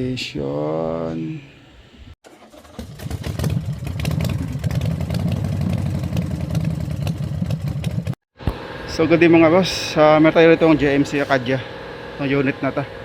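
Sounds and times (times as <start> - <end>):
engine running: 2.3 - 13.0.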